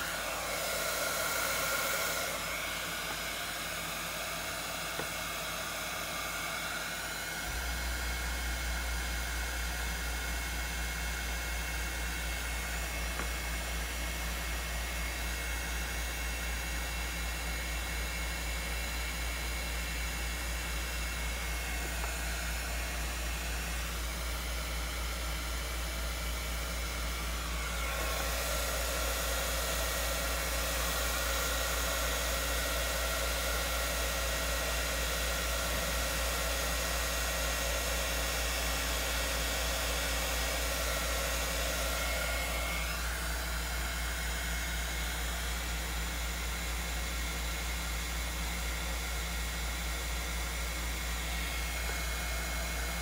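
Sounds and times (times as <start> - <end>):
heat gun blowing: 0.0 - 17.1, 17.7 - 46.5, 50.8 - 53.0.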